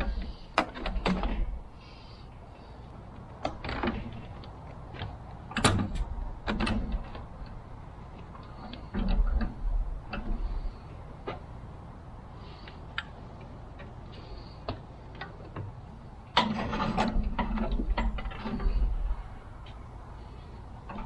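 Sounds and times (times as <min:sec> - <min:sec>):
rough mechanical noise with hum: 0:00.0 - 0:21.0.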